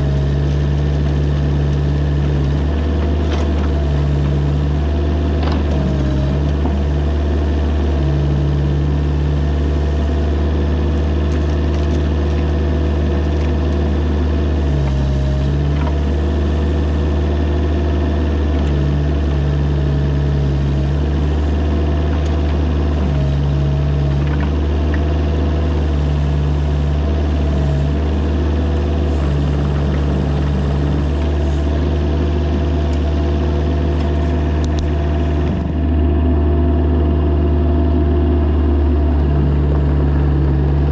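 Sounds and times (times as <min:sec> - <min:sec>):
mini excavator engine running: 0:00.0 - 0:40.9.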